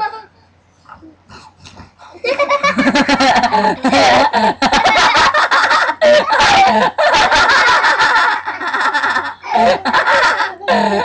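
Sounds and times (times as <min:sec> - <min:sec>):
people cackling with laughter: 0:02.2 - 0:11.0.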